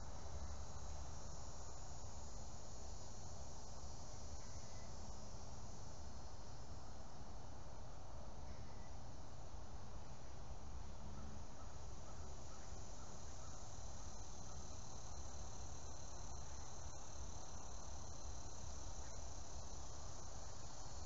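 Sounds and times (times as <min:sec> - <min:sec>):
insects chirring: 0:00.0 - 0:07.1, 0:11.2 - 0:21.0.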